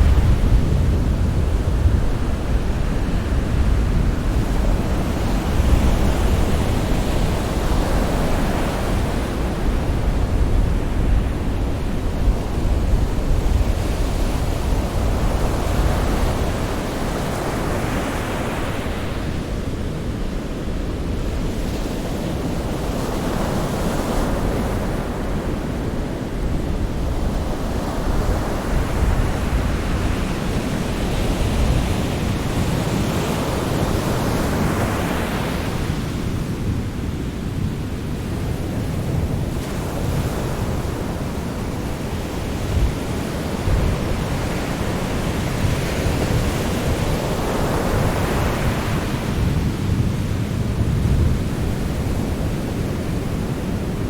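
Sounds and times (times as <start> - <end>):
ocean waves breaking on shore: 0.0 - 54.0
wind on microphone: 0.0 - 54.0.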